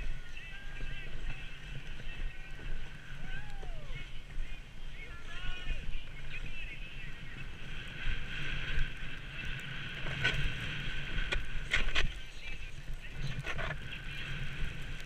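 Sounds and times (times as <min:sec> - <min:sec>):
skis crunching on bumps: 0:00.0 - 0:15.0
skis scraping over snow: 0:00.0 - 0:15.0
wind on microphone: 0:00.0 - 0:15.0.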